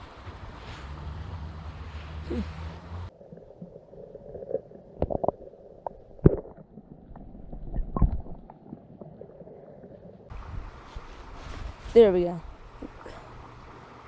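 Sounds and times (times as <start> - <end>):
muffled gurgling water: 1.9 - 14.0.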